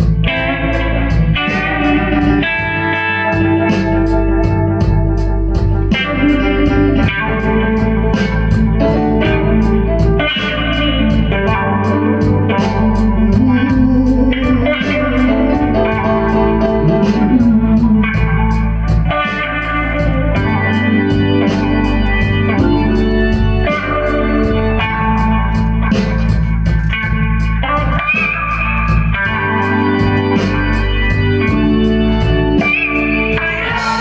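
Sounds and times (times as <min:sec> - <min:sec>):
bass: 0:00.0 - 0:34.0
drums with cymbal beat: 0:00.0 - 0:34.0
electric guitar: 0:00.0 - 0:34.0.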